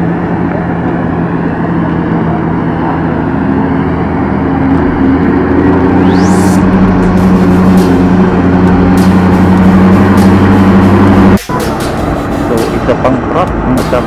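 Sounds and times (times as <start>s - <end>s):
ship diesel engines humming: 0.0s - 14.0s.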